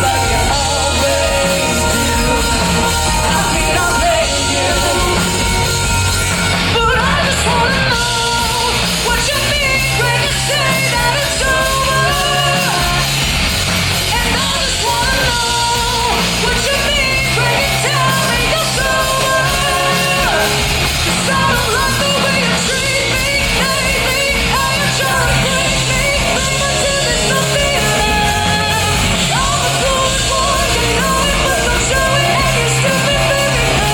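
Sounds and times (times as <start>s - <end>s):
heavy rock band playing: 0.0s - 33.9s
lead vocal singing and yelling: 0.0s - 33.9s.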